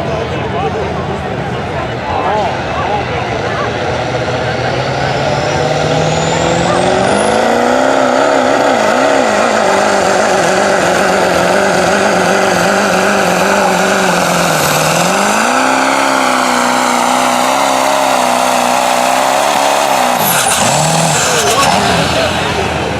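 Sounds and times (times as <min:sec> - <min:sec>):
truck engine at high revs: 0:00.0 - 0:22.9.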